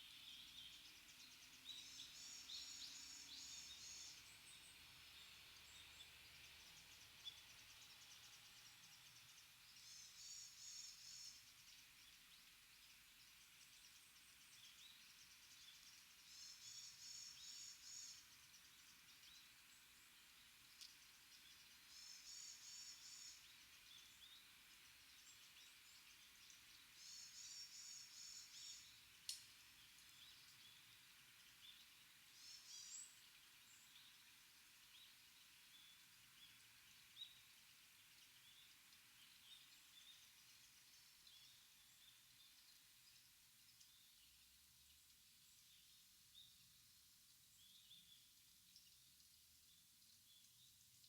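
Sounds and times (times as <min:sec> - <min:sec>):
faint bird chirps: 0:00.0 - 0:51.0
forest ambience: 0:00.0 - 0:51.0.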